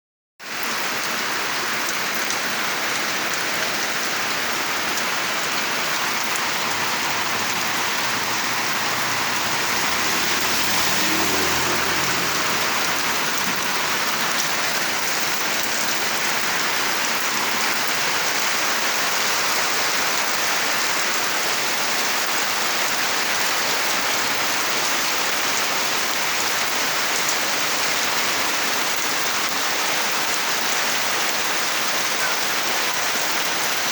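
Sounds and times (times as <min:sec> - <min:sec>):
heavy rain pouring: 0:00.5 - 0:33.9.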